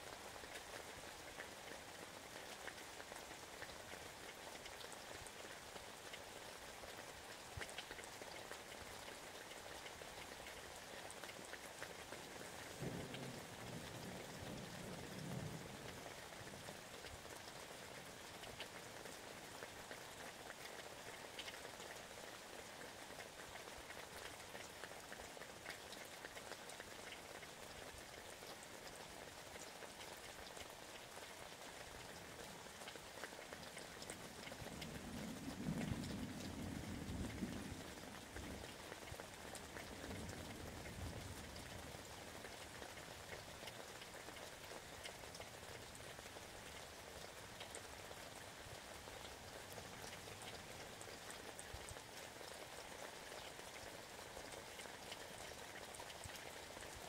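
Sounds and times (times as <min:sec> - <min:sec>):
steady rain falling: 0:00.0 - 0:57.0
ticks of raindrops: 0:00.0 - 0:57.0.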